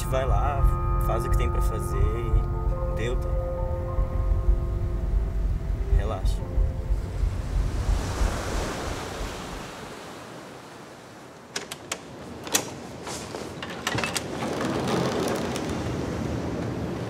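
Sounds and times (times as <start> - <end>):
sea surf and wind: 0.0 - 17.0.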